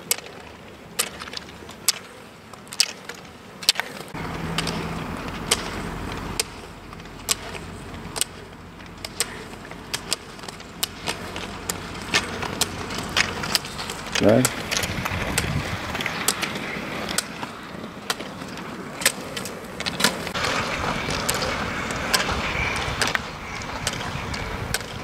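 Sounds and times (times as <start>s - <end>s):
roller ski wheels rolling: 0.0s - 25.0s
rolling rumble with low hum: 0.0s - 25.0s
ski pole tips clicking on asphalt: 0.0s - 25.0s.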